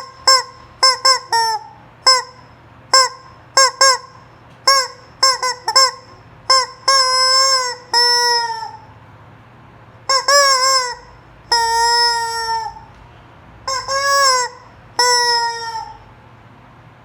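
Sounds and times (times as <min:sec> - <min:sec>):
rubber chicken toy squawking: 0:00.0 - 0:09.0, 0:10.1 - 0:12.9, 0:13.7 - 0:16.1.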